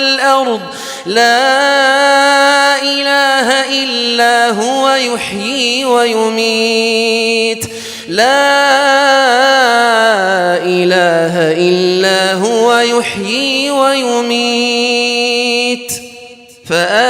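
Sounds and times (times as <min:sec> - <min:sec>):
person chanting recitation: 0:00.0 - 0:17.0.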